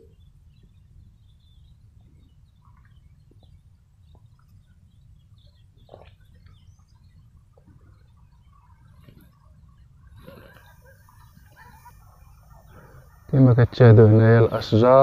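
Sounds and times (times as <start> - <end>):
bird chirps: 0.0 - 15.0
low outdoor rumble: 0.0 - 15.0.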